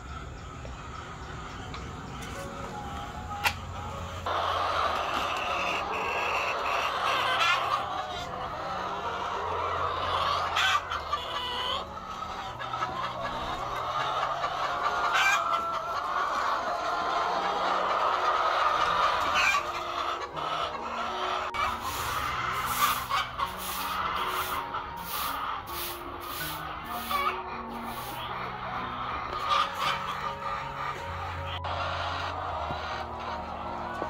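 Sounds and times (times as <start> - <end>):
hens clucking: 0.0 - 34.0.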